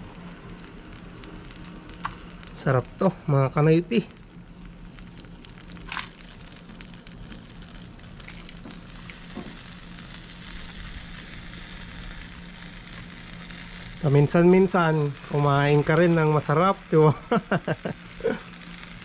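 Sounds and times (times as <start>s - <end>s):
skewers sizzling over charcoal grill: 0.0s - 19.0s.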